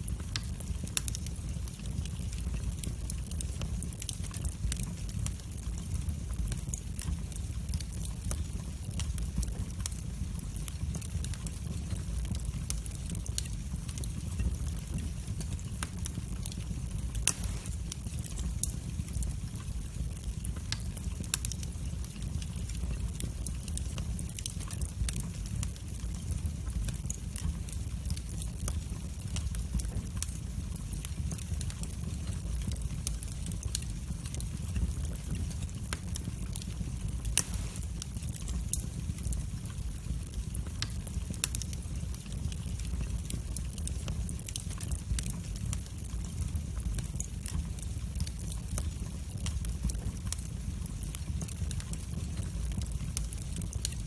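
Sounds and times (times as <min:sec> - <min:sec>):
fire crackling and popping: 0:00.0 - 0:54.0
wood fire rumbling: 0:00.0 - 0:54.0.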